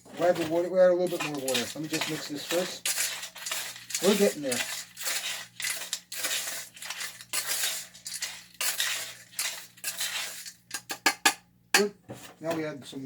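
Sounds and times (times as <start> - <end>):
metal spoon scraping wet concrete: 0.1 - 10.9.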